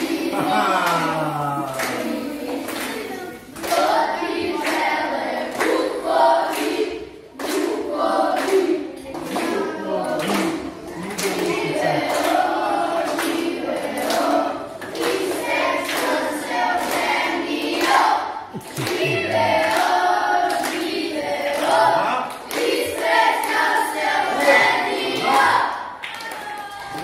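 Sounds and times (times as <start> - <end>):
hand clapping: 0.0 - 4.9, 5.5 - 23.7
children singing in chorus: 0.0 - 27.0.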